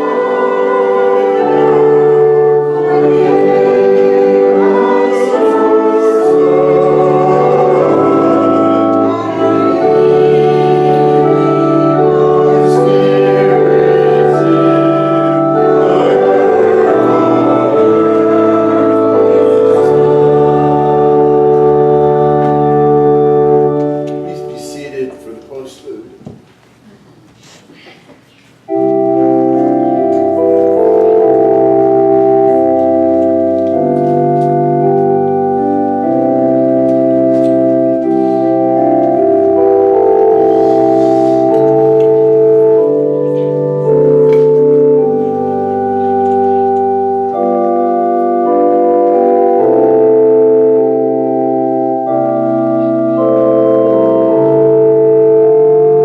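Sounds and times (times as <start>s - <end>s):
organ playing held chords: 0.0s - 26.2s, 28.6s - 56.0s.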